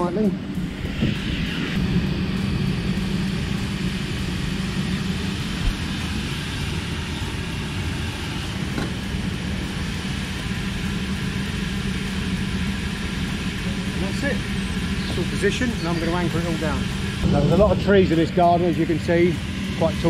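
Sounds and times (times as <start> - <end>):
blower fan humming: 0.0 - 20.0.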